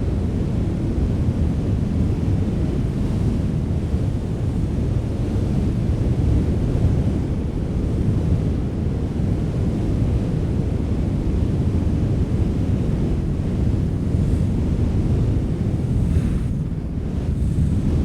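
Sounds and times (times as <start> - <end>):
strong wind blowing: 0.0 - 18.0.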